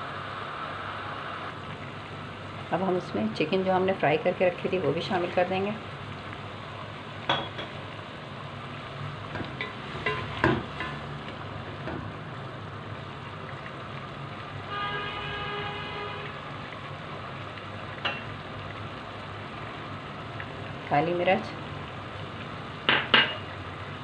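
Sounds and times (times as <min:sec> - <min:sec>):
stew simmering and sizzling: 0:00.0 - 0:24.0.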